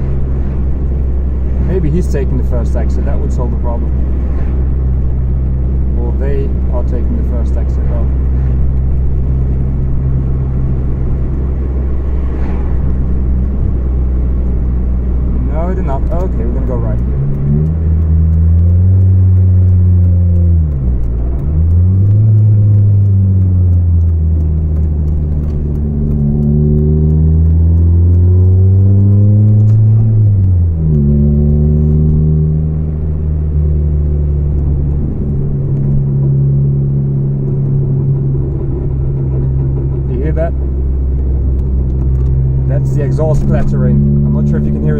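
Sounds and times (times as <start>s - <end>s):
car engine with leaking exhaust: 0.0s - 44.9s.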